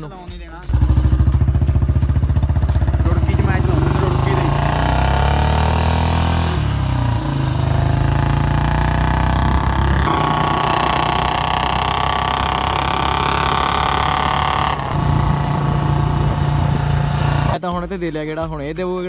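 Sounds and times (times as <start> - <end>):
motorcycle engine with loud exhaust: 0.7 - 17.6.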